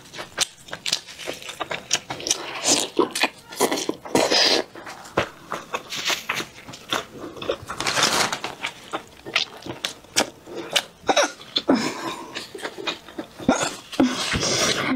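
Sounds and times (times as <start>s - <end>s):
wet chewing and mouth smacks: 0.0s - 7.8s, 8.6s - 14.5s.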